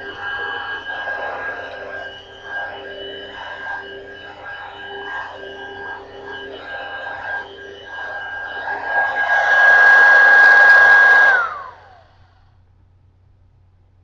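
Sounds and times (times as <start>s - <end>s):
hand vacuum motor whining: 0.0s - 12.2s.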